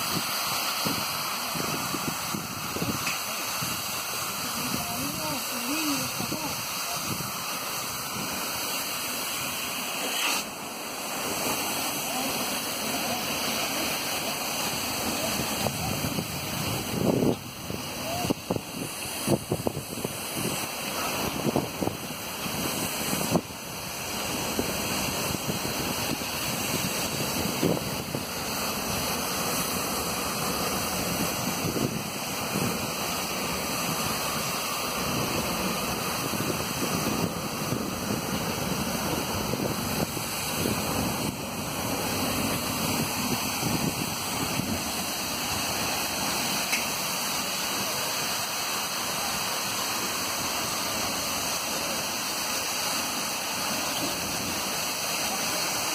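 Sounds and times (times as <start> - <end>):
fire hose spraying water: 0.0 - 55.9.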